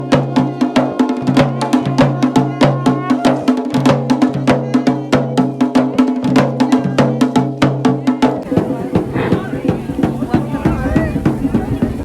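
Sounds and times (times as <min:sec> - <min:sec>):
quick steady drum beat: 0:00.0 - 0:12.0.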